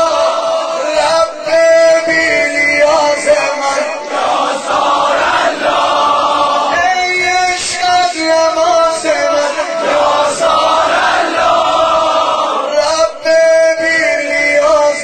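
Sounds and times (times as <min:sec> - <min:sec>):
male chorus chanting: 0:00.0 - 0:15.0.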